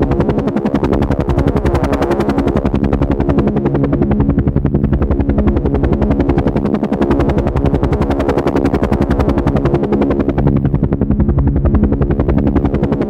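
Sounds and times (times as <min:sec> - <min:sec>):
helicopter rotor blades thumping: 0:00.0 - 0:13.0
low engine hum: 0:01.3 - 0:13.0.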